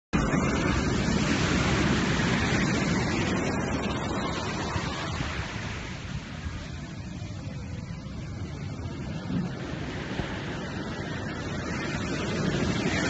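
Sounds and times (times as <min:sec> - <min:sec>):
ocean waves washing on beach: 0:00.2 - 0:13.0.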